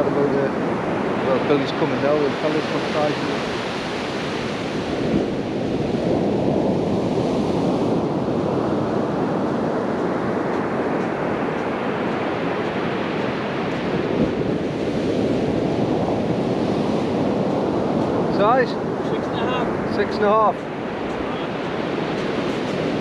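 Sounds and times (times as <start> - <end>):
surf washing onto beach: 0.0 - 23.0
wind on microphone: 0.0 - 23.0.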